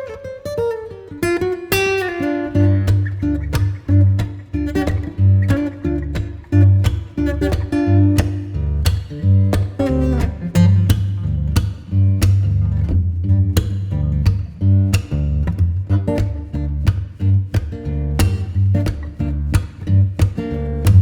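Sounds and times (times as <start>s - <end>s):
plucked guitar with bass and beat: 0.0s - 21.0s.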